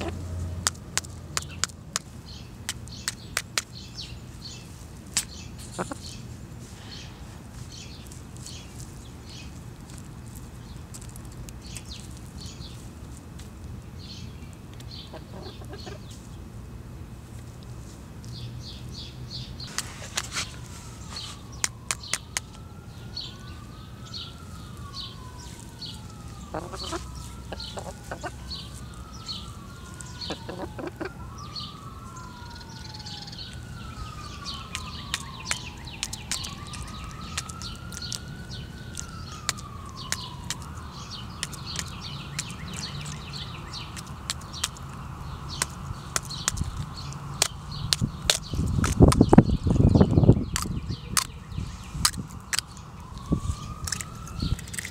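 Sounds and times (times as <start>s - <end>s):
small birds chirping: 0.0s - 12.9s, 13.7s - 16.5s, 18.2s - 54.9s.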